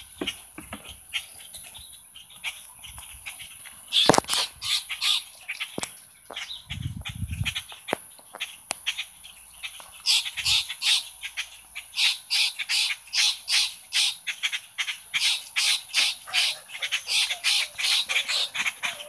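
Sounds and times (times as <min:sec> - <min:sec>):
harsh rasping bird scolding calls: 0:02.2 - 0:19.0.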